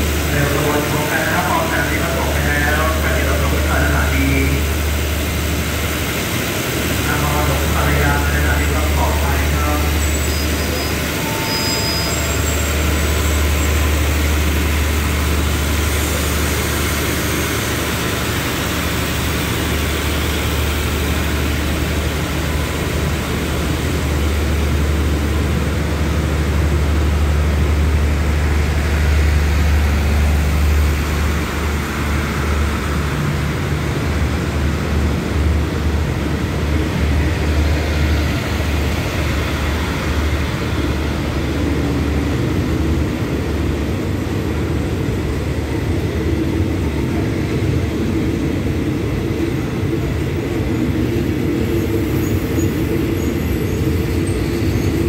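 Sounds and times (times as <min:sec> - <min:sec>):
diesel engine hum: 0:00.0 - 0:55.0
train coaches rumbling on track: 0:00.0 - 0:55.0.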